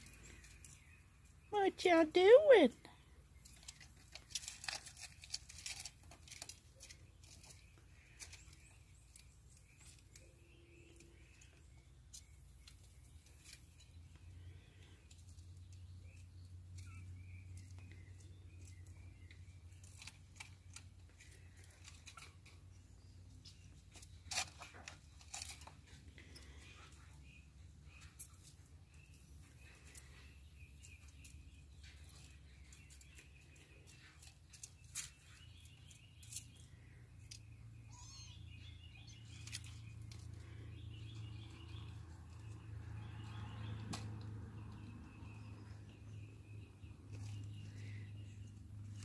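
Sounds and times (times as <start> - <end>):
kitten claws scratching and rustling: 0.0 - 1.5, 3.2 - 49.0.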